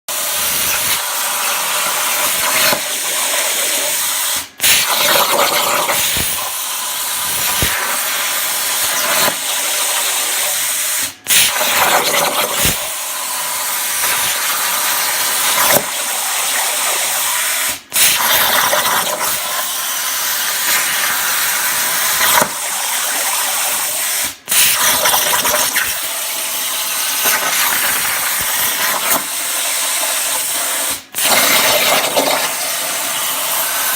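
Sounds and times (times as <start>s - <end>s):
plasma cutter hissing: 0.1s - 33.9s.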